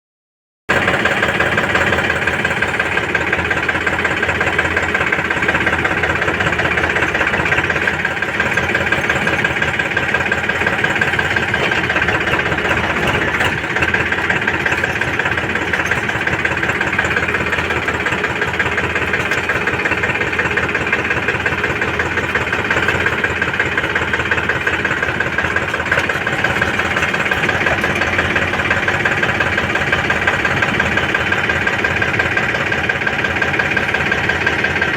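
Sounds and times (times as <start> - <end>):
diesel engine running: 0.7 - 34.9.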